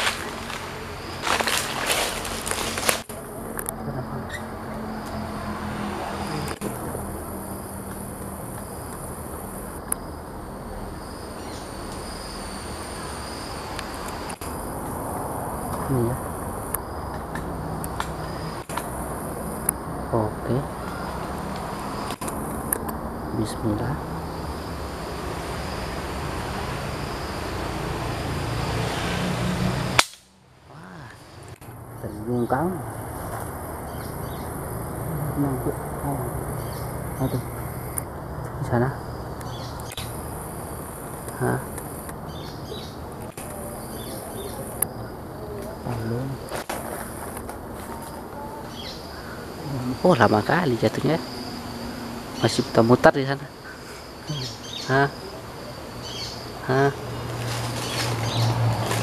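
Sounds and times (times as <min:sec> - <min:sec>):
insects buzzing: 0:00.0 - 0:59.0
steady hiss with low hum: 0:06.3 - 0:29.0, 0:29.8 - 0:59.0.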